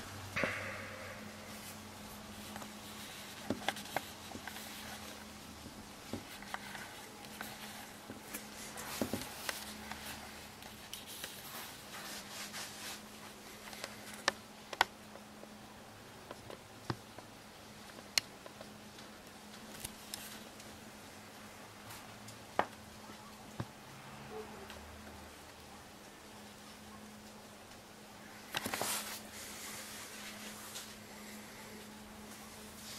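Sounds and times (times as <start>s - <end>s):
faint hiss: 0.0s - 16.3s, 17.2s - 32.9s
low steady hum: 0.0s - 32.9s.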